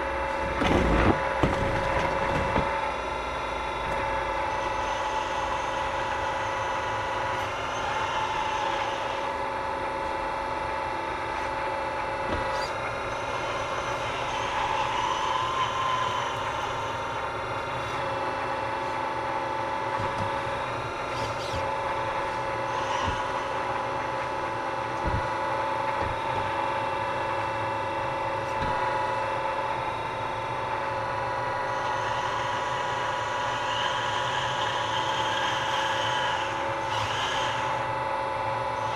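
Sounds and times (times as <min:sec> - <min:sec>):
rc machines whine and drone: 0:00.0 - 0:38.9.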